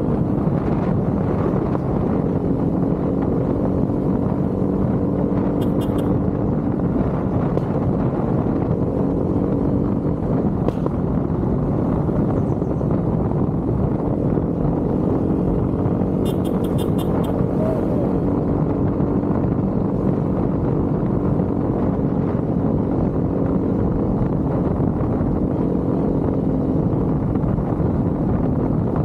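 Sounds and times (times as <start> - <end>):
motorcycle engine running: 0.0 - 29.0
wind on microphone: 0.0 - 29.0.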